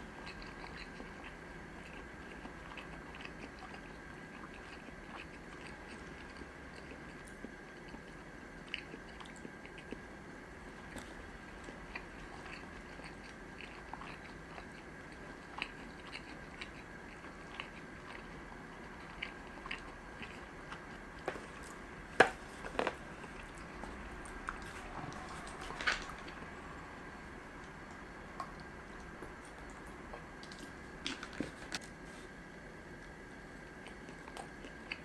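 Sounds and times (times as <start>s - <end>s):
chewing and biting food: 0.0s - 26.8s, 27.5s - 32.0s, 33.1s - 35.0s.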